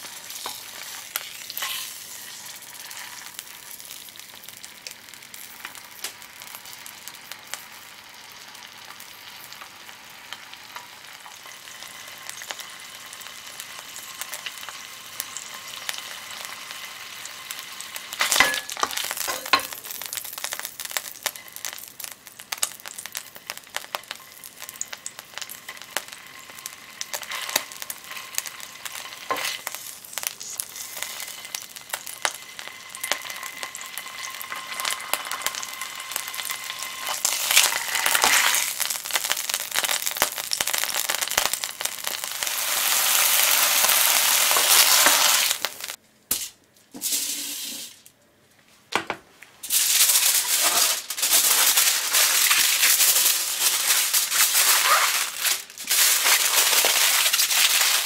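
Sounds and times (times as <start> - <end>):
meat sizzling in a frying pan: 0.0 - 46.0, 49.6 - 58.0.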